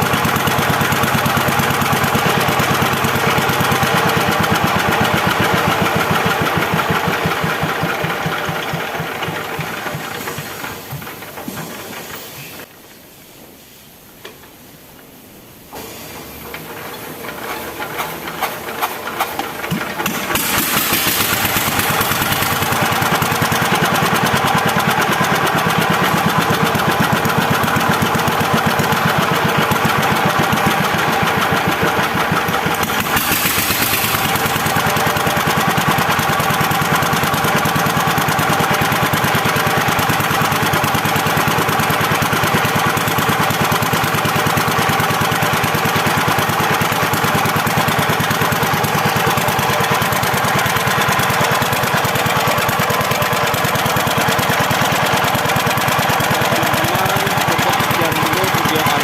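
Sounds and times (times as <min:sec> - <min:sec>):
single-cylinder diesel engine running: 0:00.0 - 0:12.7, 0:15.7 - 0:59.0.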